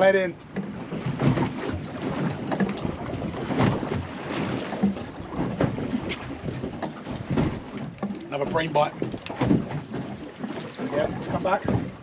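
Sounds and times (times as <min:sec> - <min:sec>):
waves slapping boat hull: 0:00.0 - 0:12.0
wind buffeting microphone: 0:00.0 - 0:12.0.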